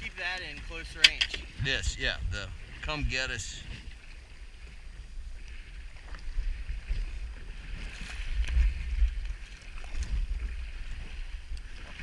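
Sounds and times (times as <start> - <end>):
waves slapping against boat: 0.0 - 12.0
wind buffeting microphone: 0.0 - 12.0.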